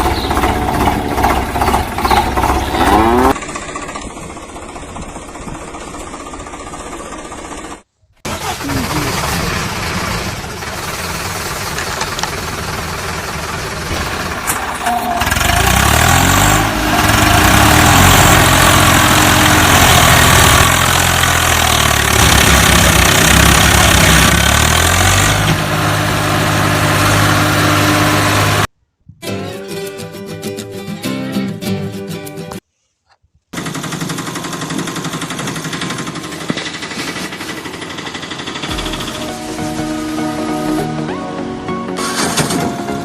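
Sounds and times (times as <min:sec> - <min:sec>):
tractor engine revving: 0:00.0 - 0:28.7, 0:33.6 - 0:43.0.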